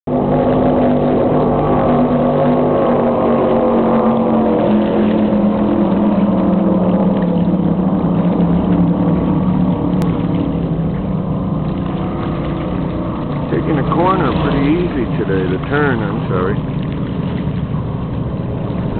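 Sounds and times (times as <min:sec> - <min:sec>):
powerboat engines droning: 0:00.1 - 0:18.9.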